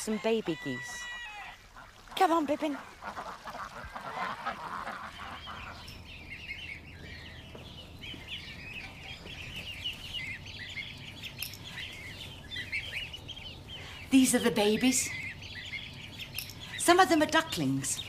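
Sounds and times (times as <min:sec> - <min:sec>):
goslings and ducklings cheeping: 0:00.0 - 0:18.0.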